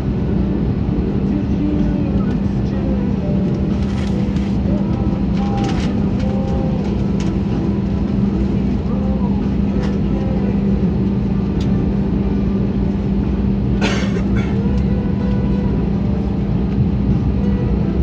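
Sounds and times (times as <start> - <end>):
jet engine cabin rumble: 0.0 - 18.0.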